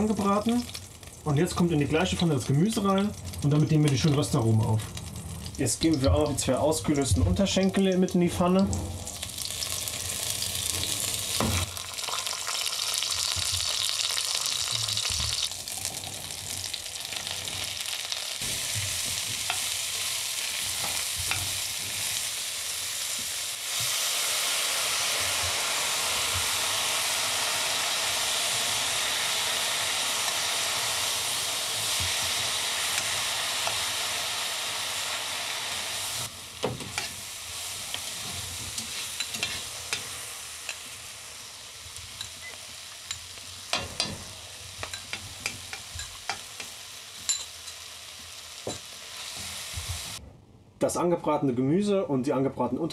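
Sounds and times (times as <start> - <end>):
food sizzling in a pan: 0.0 - 7.0, 8.7 - 50.2.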